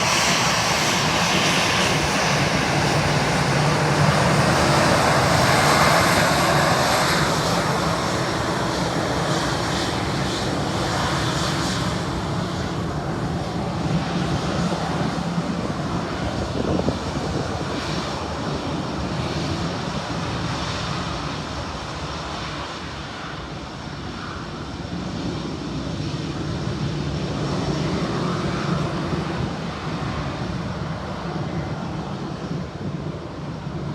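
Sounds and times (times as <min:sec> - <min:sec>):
jet engine whine: 0:00.0 - 0:33.9
jet engines roaring: 0:00.0 - 0:33.9.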